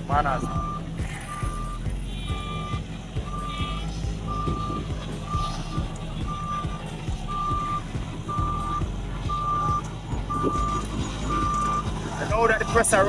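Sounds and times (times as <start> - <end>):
diesel engine running: 0.0 - 13.0
reversing alarm beeping: 0.0 - 13.0.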